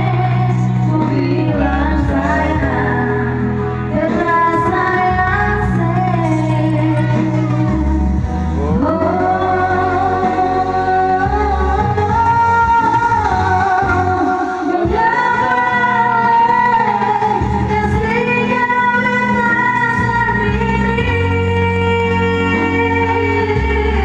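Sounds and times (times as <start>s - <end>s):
instrumental backing music: 0.0s - 24.0s
woman singing slow melody: 0.0s - 24.0s.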